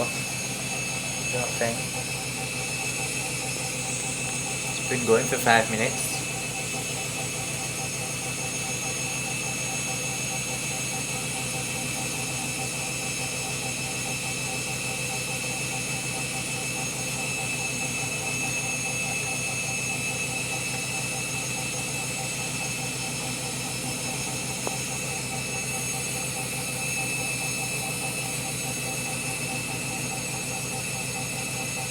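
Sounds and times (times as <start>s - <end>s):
washing machine spinning: 0.0s - 31.9s.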